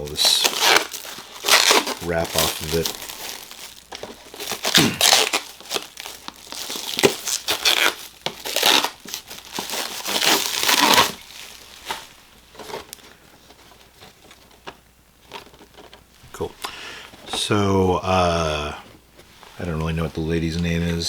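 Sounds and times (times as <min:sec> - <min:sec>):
plastic wrapping crinkling: 0:00.0 - 0:17.6.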